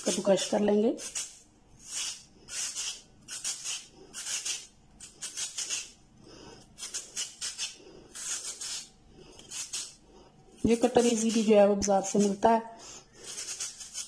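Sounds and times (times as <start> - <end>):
potato grating scraping strokes: 0.0 - 14.0.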